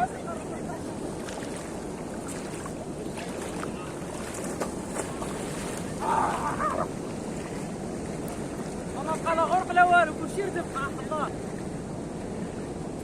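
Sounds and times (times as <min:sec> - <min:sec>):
sea waves at the shore: 0:00.0 - 0:13.0
wind buffeting microphone: 0:00.0 - 0:13.0.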